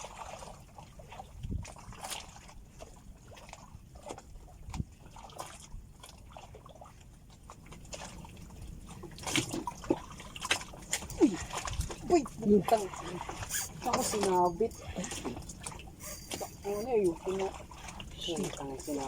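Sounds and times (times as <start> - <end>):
water sloshing against boat: 0.0 - 19.0.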